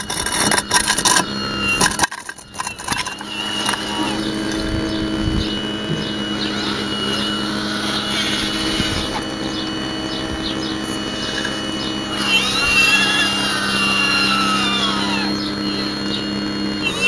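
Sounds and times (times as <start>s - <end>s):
higher motor whine: 0.0s - 17.0s
model excavator motors whining: 0.0s - 17.0s.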